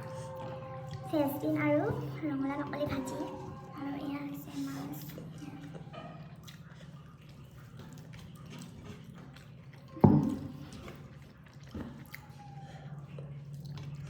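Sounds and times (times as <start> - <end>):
food squishing by hand: 0.0 - 14.0
low steady hum: 0.0 - 14.0.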